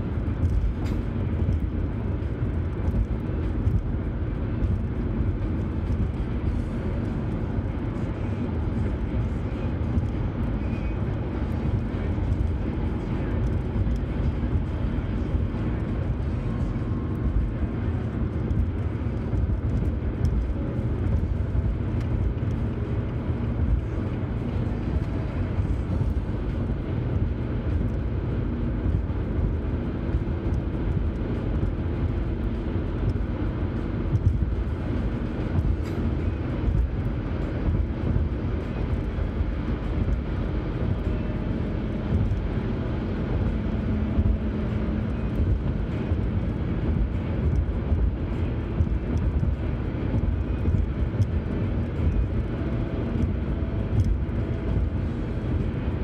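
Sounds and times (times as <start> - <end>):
car road noise from cabin: 0.0 - 56.0.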